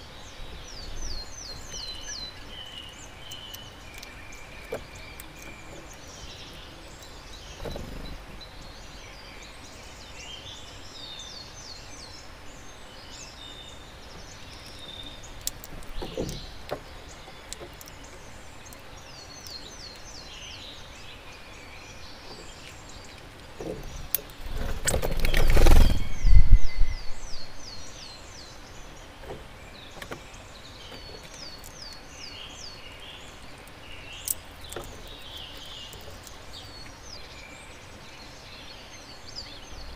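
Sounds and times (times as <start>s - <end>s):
small songbirds calling: 0.0s - 39.9s
bird song of falling notes: 0.4s - 12.2s, 13.0s - 39.9s.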